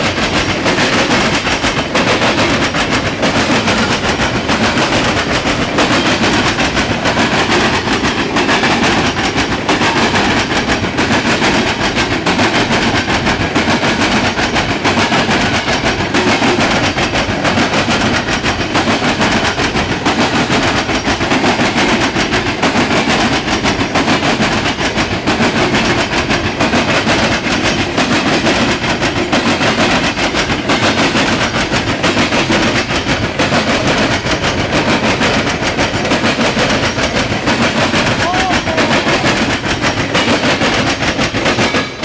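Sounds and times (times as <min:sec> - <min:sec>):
train wheels clattering on rails: 0:00.0 - 0:42.0.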